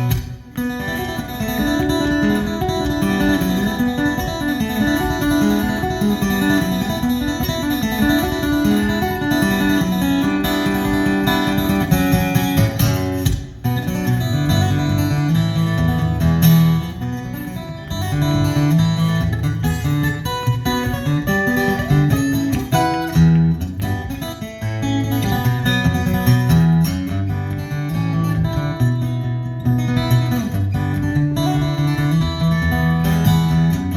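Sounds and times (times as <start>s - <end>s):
acoustic guitar strumming: 0.0s - 33.9s.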